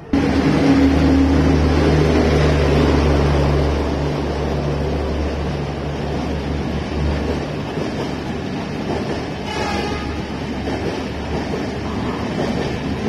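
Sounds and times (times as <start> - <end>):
electric locomotive passing: 0.0 - 13.0
passenger coaches rolling by: 0.0 - 13.0.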